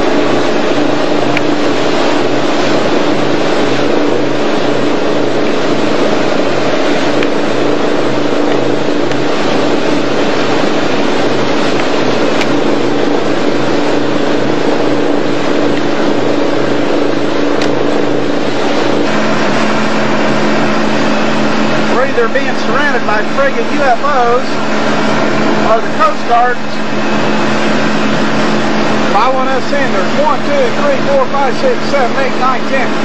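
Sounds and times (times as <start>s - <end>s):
boat engine humming: 0.0s - 33.0s
rush of wind and water: 0.0s - 33.0s.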